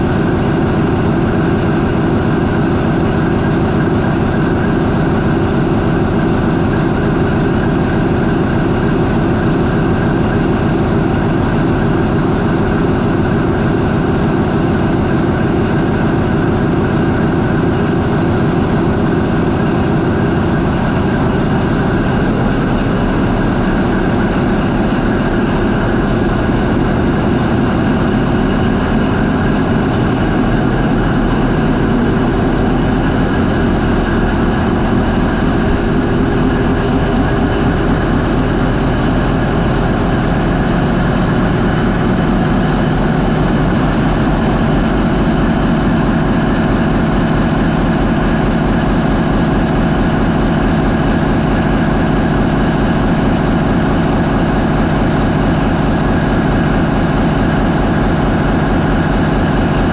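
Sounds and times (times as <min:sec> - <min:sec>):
marine diesel engine idling: 0:00.0 - 0:59.9.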